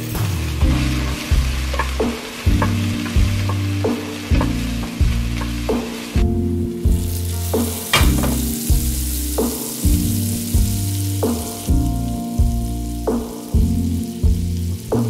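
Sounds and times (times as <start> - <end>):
background music with bass: 0.0 - 15.0
onion sizzling in hot oil: 0.0 - 15.0.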